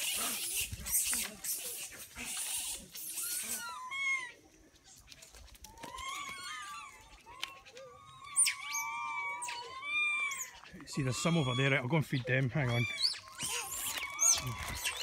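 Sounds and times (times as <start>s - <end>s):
high-pitched monkey chirps: 0.0s - 4.3s, 6.0s - 15.0s
macaques squeaking and cooing: 0.0s - 15.0s.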